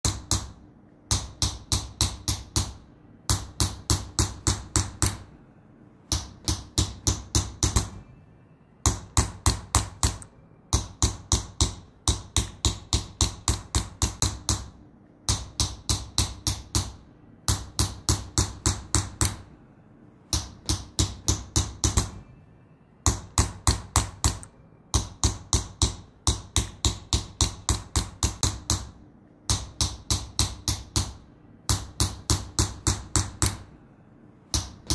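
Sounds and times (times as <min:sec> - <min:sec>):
hammer tapping chisel into metal: 0:00.0 - 0:05.3, 0:06.1 - 0:08.1, 0:08.8 - 0:19.5, 0:20.3 - 0:22.3, 0:23.0 - 0:33.8, 0:34.5 - 0:34.9.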